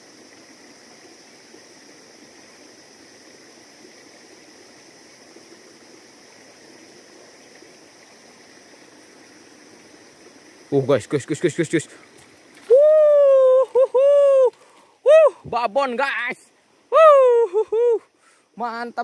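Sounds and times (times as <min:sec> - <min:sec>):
flowing stream water: 0:00.0 - 0:19.0.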